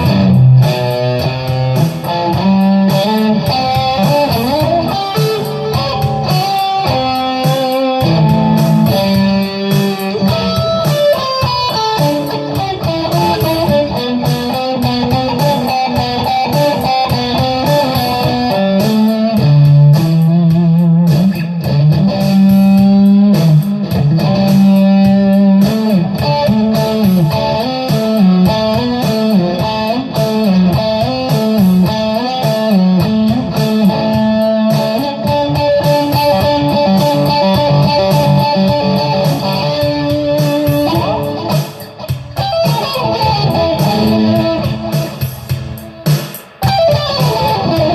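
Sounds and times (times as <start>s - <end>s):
electric guitar lead lines: 0.0s - 47.9s.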